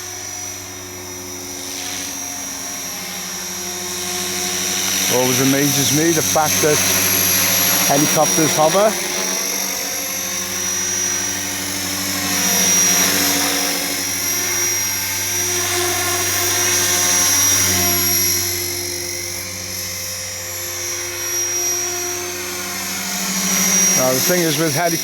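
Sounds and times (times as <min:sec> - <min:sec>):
helicopter rotor hum: 0:00.0 - 0:25.0
rc helicopter motor whine: 0:00.0 - 0:25.0.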